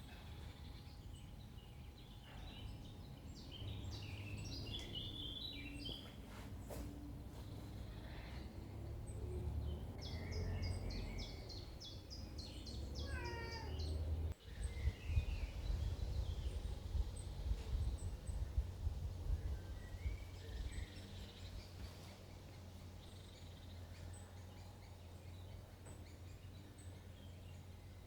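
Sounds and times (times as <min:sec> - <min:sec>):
birds chirping: 0:00.0 - 0:28.0
small birds singing: 0:00.0 - 0:28.0.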